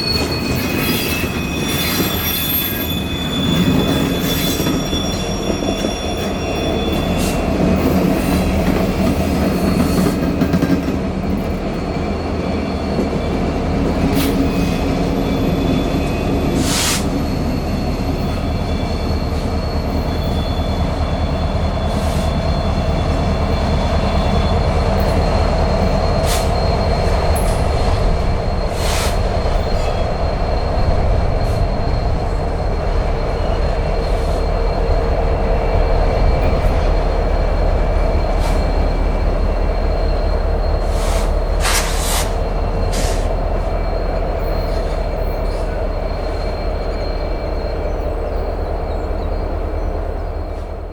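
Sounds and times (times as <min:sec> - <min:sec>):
train wheels rumbling on rail: 0:00.0 - 0:50.9
wheel squeals: 0:00.0 - 0:50.9.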